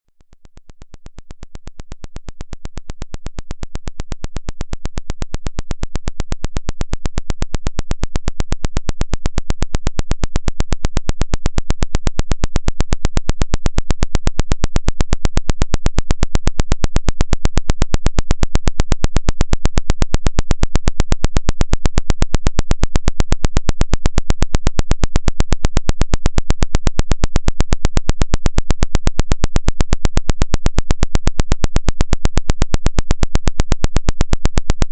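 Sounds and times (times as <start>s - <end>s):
pulsing bass buzz tone: 0.1s - 34.9s.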